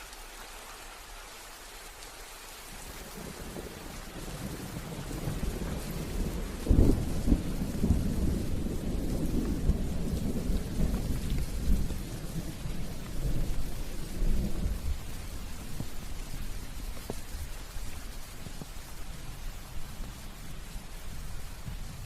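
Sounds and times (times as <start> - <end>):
rain falling: 0.0 - 22.0
thunder rumbling: 3.1 - 22.0.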